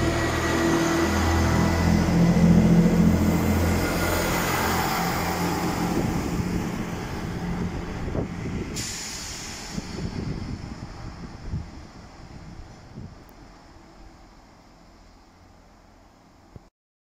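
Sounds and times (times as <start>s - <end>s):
diesel train engines pulling away: 0.0s - 16.6s.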